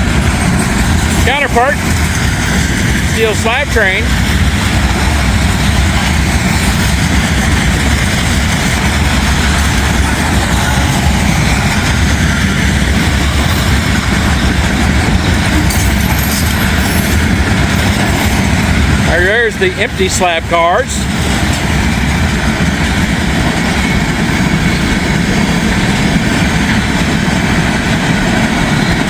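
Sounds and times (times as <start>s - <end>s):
freight train wheels rolling on rail: 0.0s - 29.0s.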